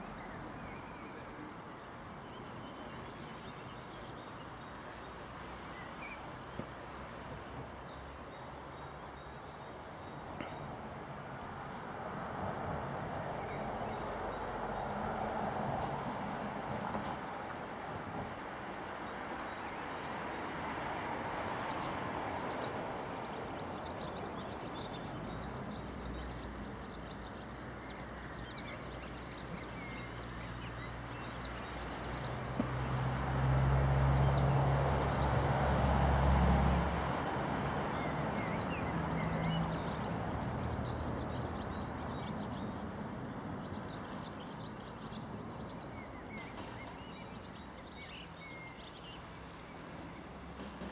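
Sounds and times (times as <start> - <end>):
outdoor background noise: 0.0 - 50.9.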